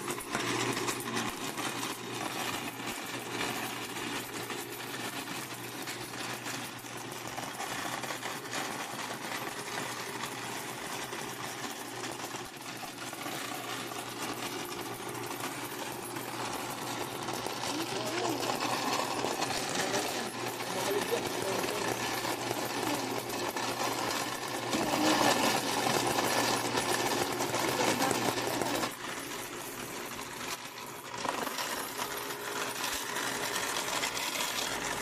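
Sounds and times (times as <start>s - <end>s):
coins rattling through counting machine: 0.0s - 35.0s.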